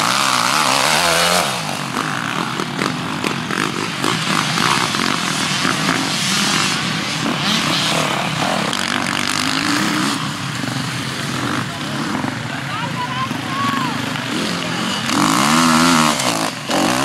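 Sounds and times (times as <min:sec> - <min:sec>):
motorcycle engines revving: 0:00.0 - 0:17.0
motorcycle passing by: 0:00.0 - 0:17.0.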